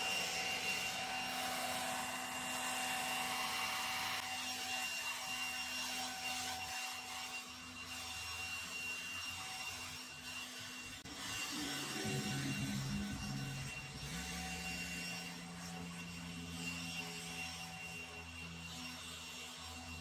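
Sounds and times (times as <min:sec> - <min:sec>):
leaf blower fan whine: 0:00.0 - 0:08.2, 0:10.6 - 0:20.0.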